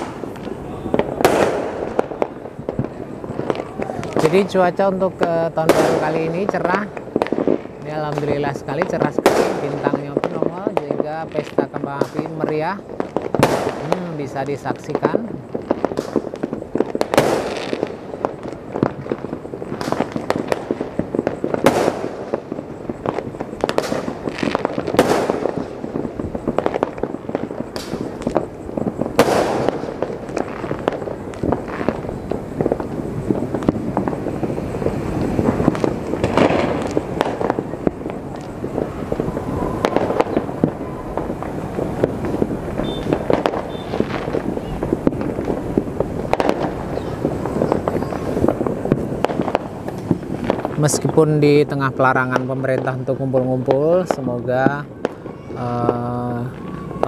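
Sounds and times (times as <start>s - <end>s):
fireworks crackling: 0.0s - 57.0s
loud fireworks bangs: 0.0s - 57.0s.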